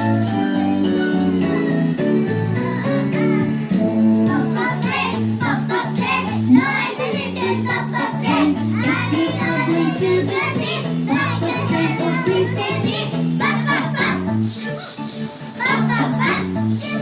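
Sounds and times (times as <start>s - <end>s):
backing music: 0.0s - 17.0s
children singing: 1.5s - 17.0s.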